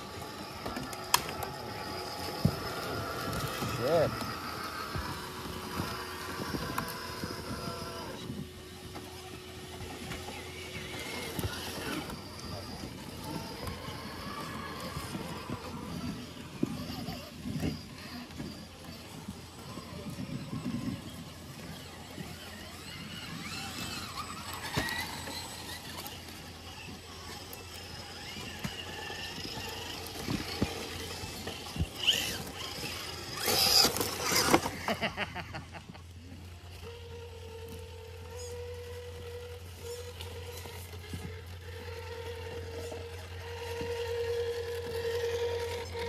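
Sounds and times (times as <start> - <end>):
rc crawler electric motors whining: 0.0 - 46.0.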